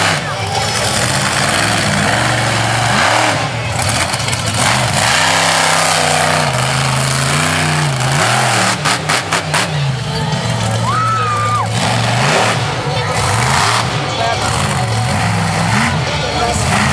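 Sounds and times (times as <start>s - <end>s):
truck engine revving: 0.0s - 16.9s.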